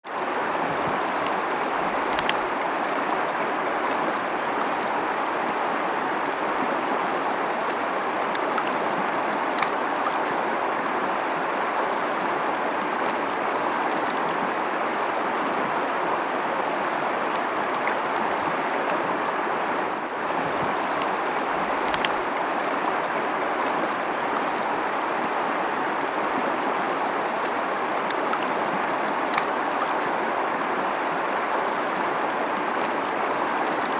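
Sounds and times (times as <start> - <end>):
river rushing over rocks: 0.1 - 33.9
water splashes and clicks: 0.4 - 5.2, 5.8 - 16.0, 17.2 - 19.1, 19.8 - 33.9.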